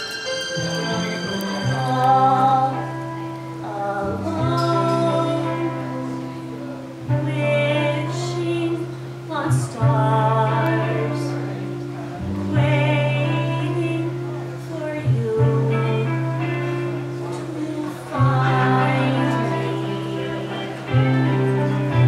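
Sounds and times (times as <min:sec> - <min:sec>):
woman singing: 0:00.0 - 0:11.7, 0:12.4 - 0:22.0
low bass notes: 0:00.6 - 0:22.0.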